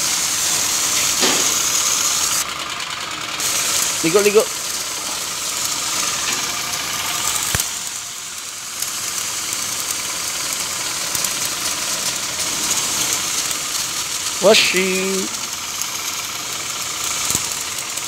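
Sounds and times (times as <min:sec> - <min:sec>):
pressure washer spraying: 0:00.0 - 0:18.0.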